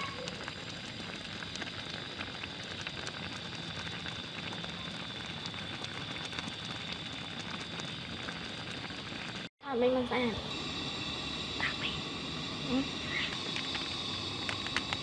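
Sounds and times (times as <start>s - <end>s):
soup bubbling with pops: 0.0s - 9.5s, 10.5s - 15.0s
steady high whine: 0.0s - 15.0s.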